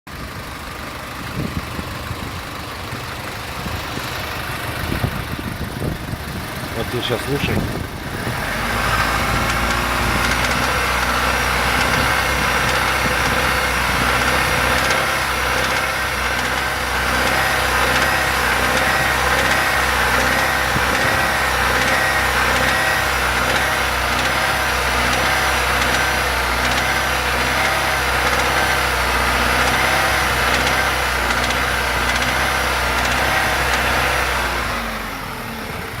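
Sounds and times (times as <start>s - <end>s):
engine idling with knock: 0.1s - 36.0s.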